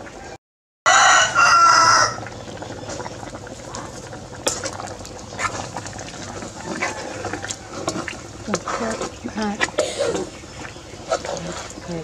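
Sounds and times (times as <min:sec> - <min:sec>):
soup bubbling in a pot: 0:01.1 - 0:12.0.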